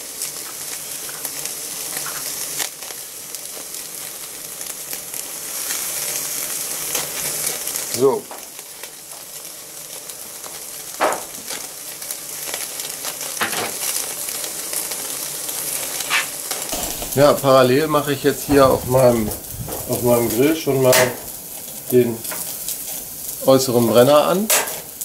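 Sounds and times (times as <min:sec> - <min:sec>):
steak sizzling on a grill: 0:00.0 - 0:25.0.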